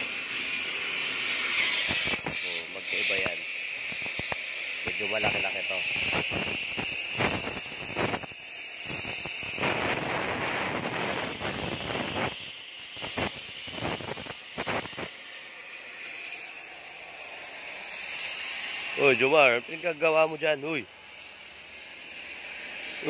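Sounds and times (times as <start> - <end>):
cutting torch hissing: 0.0 - 23.0.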